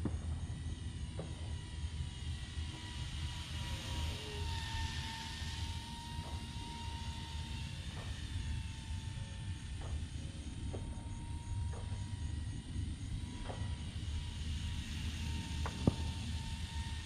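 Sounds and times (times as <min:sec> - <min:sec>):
model plane motor whining: 0:01.1 - 0:17.0.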